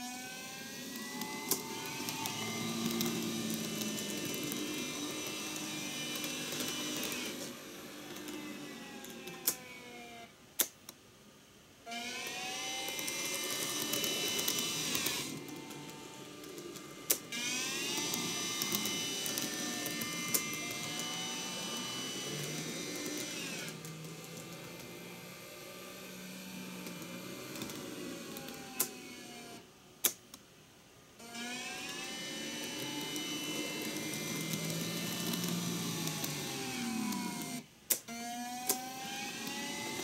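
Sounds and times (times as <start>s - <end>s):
model train motors whining: 0.0s - 10.7s, 11.9s - 30.2s, 31.2s - 40.0s.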